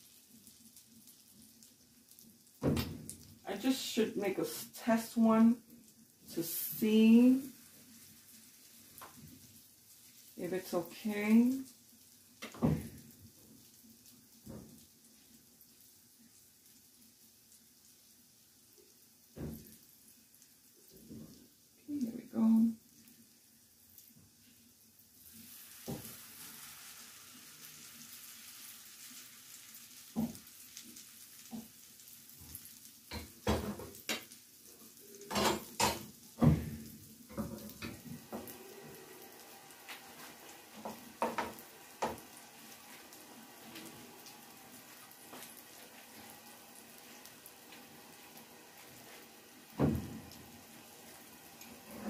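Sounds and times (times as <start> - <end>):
batter sizzling in a pan: 0.0 - 52.0.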